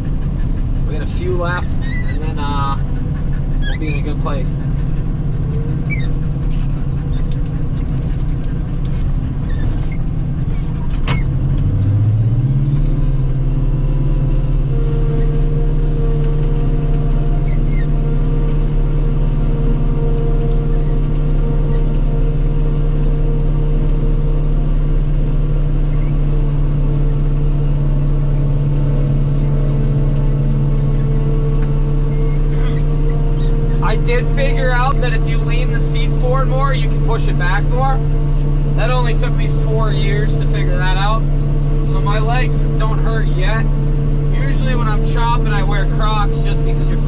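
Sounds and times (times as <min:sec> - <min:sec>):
harvester engine running: 0:00.0 - 0:47.0.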